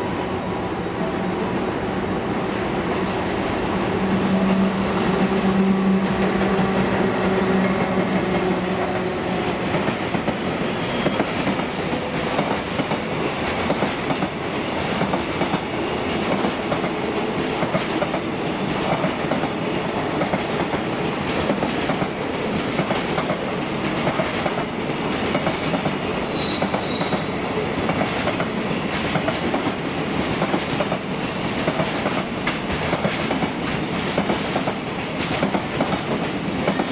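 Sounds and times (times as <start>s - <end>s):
freight train rumbling: 0.0s - 36.9s.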